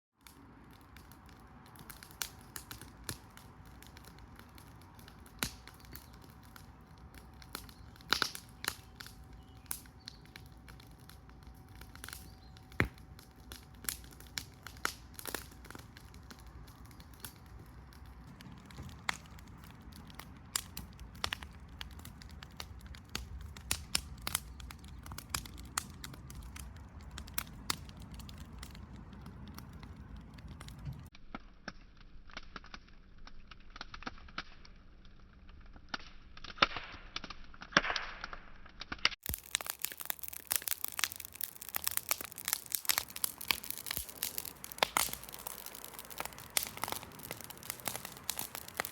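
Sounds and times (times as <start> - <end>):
bonfire crackling: 0.2 - 48.9
sharp pops and snaps of fire: 0.2 - 48.9.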